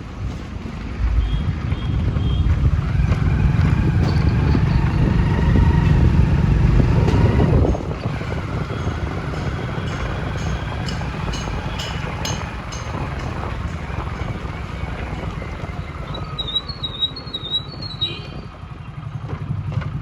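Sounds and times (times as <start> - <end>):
heavy low rumble: 0.0 - 16.4
road noise: 0.0 - 20.0.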